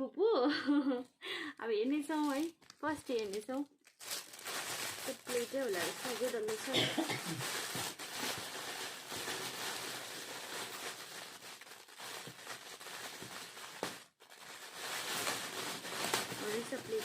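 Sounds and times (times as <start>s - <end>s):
gift wrapping rustling and tearing: 1.8s - 17.0s.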